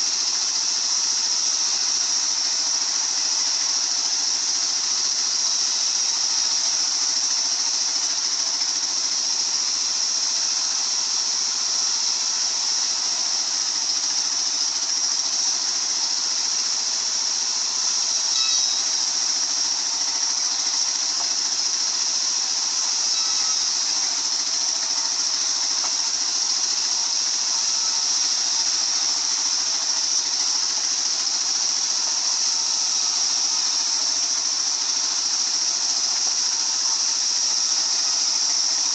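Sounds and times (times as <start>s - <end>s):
circular saw hissing: 0.0s - 38.9s.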